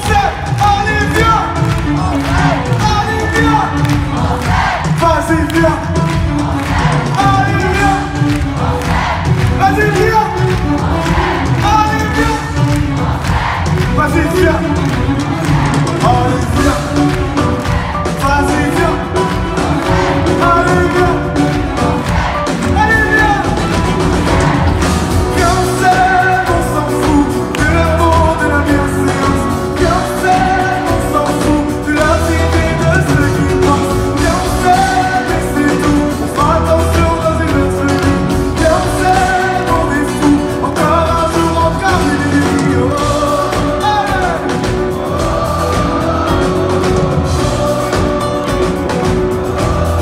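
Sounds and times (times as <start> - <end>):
live pop band with singing: 0.0 - 50.0.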